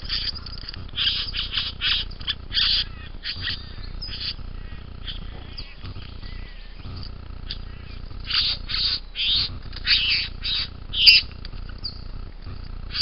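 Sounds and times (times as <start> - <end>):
bird harsh rasping calls: 0.0 - 13.0
low steady hum: 0.0 - 13.0.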